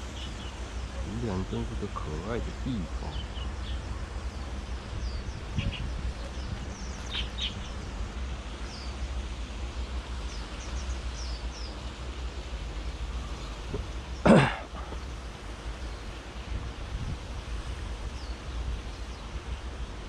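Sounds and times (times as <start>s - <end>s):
small birds chirping: 0.0s - 17.2s, 18.0s - 20.0s.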